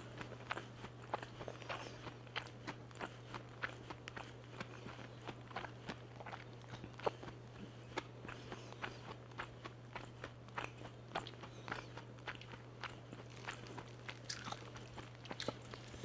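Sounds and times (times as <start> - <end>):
chewing crispy chicken: 0.0 - 16.0
steady low hum: 0.0 - 16.0.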